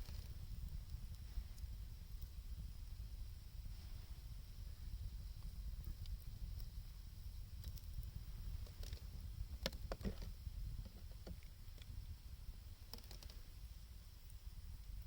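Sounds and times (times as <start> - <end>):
blizzard wind rumble: 0.0 - 15.0
wood fire crackling and popping: 0.0 - 15.0.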